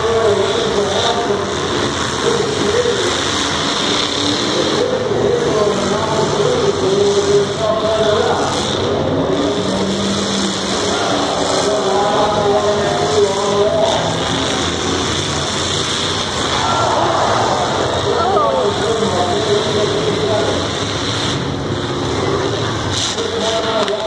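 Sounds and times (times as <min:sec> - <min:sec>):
car engines revving: 0:00.0 - 0:24.0
noisy din: 0:00.0 - 0:24.0.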